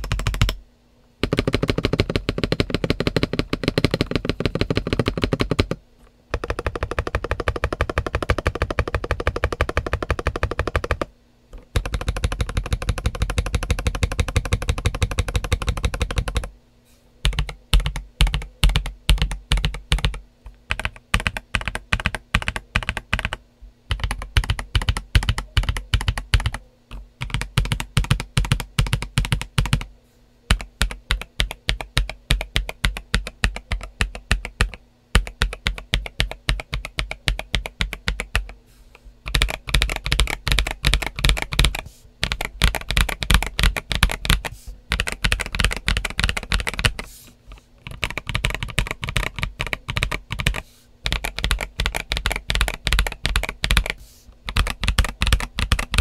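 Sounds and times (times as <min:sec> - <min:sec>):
mechanical keyboard typing: 0:00.0 - 0:00.6, 0:01.2 - 0:16.5, 0:17.2 - 0:29.9, 0:30.5 - 0:38.6, 0:39.3 - 0:47.1, 0:47.8 - 0:56.0.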